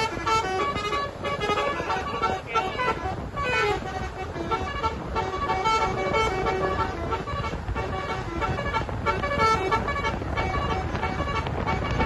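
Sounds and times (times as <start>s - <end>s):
bus rumble: 0.0s - 12.0s
musical bus air horn: 0.0s - 12.0s.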